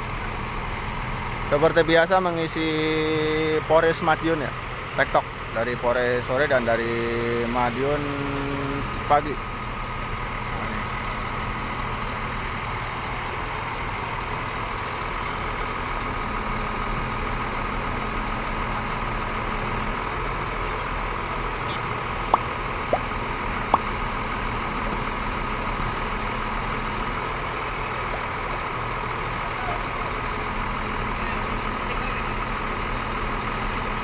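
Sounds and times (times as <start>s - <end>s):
diesel bus engine idling: 0.0s - 34.0s.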